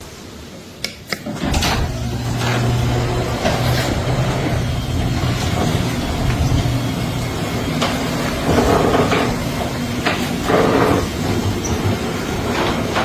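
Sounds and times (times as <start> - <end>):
garage door motor humming: 1.2 - 13.0
garage door opener clicks: 1.2 - 13.0.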